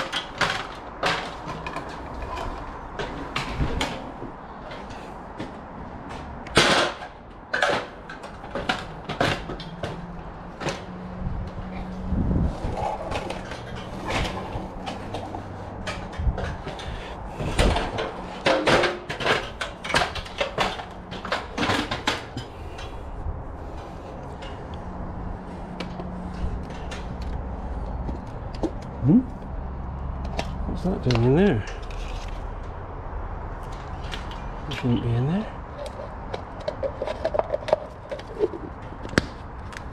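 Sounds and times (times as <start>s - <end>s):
knocks and clatter of handling cable: 0.0s - 11.6s, 12.6s - 23.0s, 25.6s - 32.8s, 33.6s - 39.9s.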